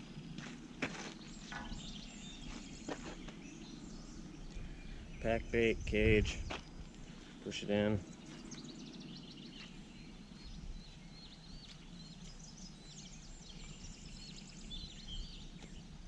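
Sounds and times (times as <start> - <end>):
low outdoor background noise: 0.0 - 16.0
small birds chirping: 0.4 - 16.0.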